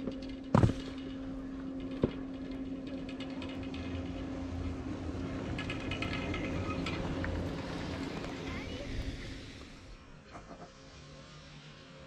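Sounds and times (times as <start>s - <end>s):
chairlift machinery humming: 0.0s - 11.0s.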